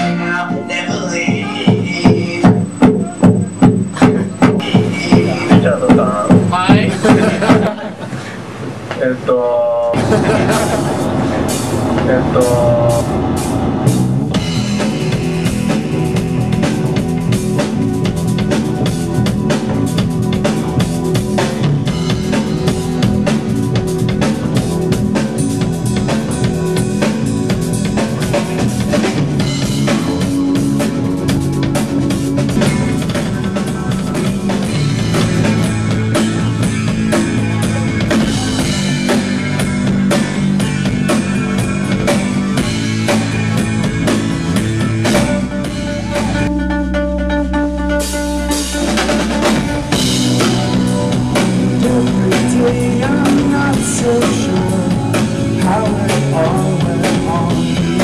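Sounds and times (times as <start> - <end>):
deep bass note: 0.0 - 7.8, 9.9 - 58.0
drum kit beat: 0.0 - 8.8, 10.0 - 58.0
synthesizer keyboard: 0.0 - 57.4
electric guitar: 0.0 - 58.0.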